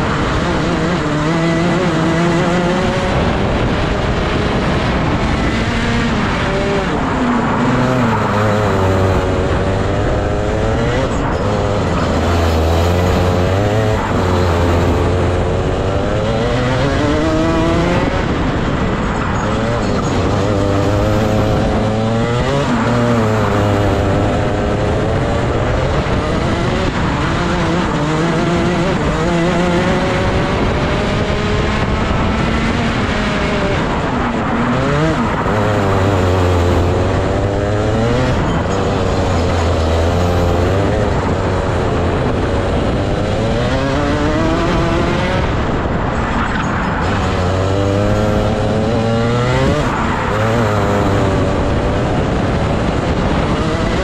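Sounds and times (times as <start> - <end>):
kart engine at full throttle: 0.0 - 54.0.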